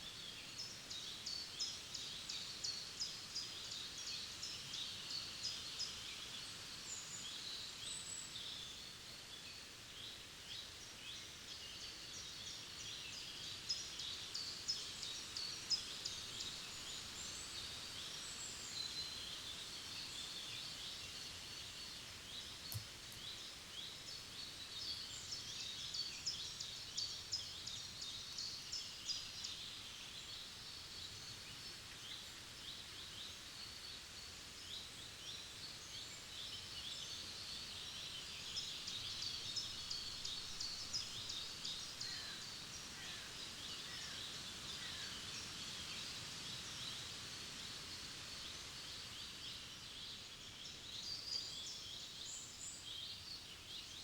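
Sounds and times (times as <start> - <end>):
faint background hiss: 0.0 - 54.0
songbirds chirping and trilling: 0.0 - 54.0.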